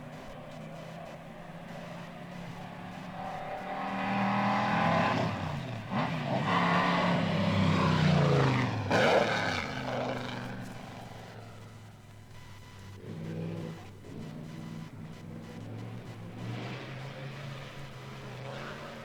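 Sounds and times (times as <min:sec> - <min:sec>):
racing car engine passing by: 0:00.1 - 0:11.9, 0:13.0 - 0:19.0.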